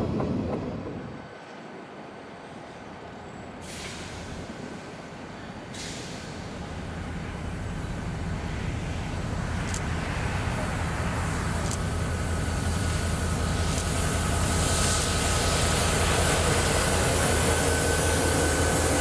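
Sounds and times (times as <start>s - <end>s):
diesel locomotive engines rumbling: 0.0s - 19.0s.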